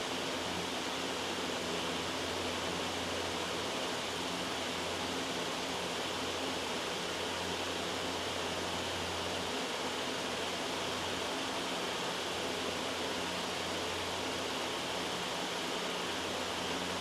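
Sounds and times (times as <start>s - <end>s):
loud white noise hiss: 0.0s - 17.0s.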